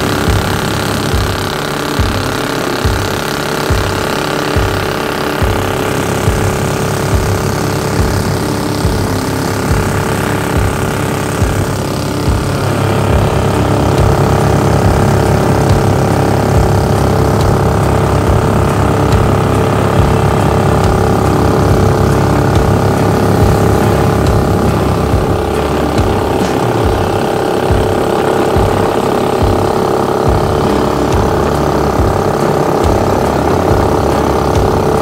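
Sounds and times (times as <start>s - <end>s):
boat engine running under load: 0.0s - 35.0s.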